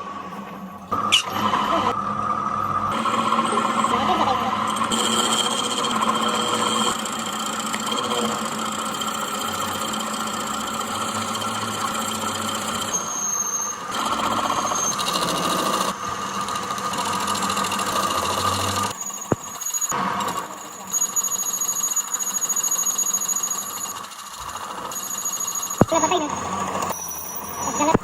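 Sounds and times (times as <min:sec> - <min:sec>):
machinery humming and whining: 0:00.0 - 0:28.0.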